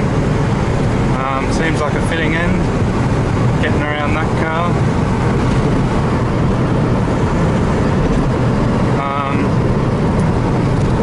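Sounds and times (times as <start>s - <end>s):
car engine: 0.0s - 11.0s
road rumble: 0.0s - 11.0s.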